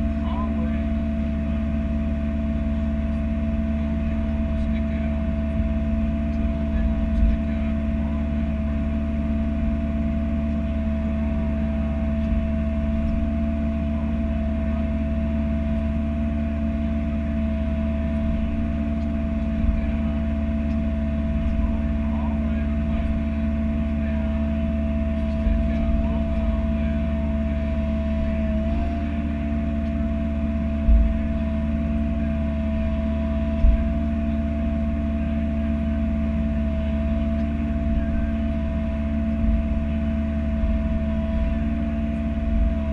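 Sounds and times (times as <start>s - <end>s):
diesel engine running: 0.0s - 42.9s
steady whine: 0.0s - 42.9s.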